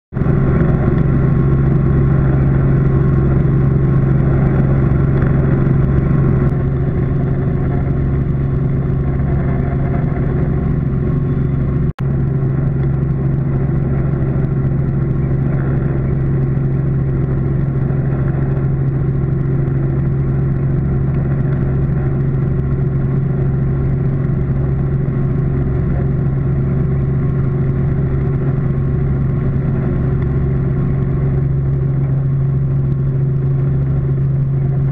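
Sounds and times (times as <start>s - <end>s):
helicopter drone inside cabin: 0.1s - 34.9s.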